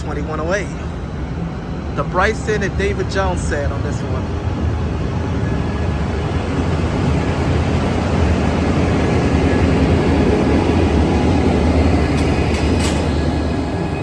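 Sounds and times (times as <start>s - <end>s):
diesel locomotive rumble: 0.0s - 14.0s
train running noise: 0.0s - 14.0s.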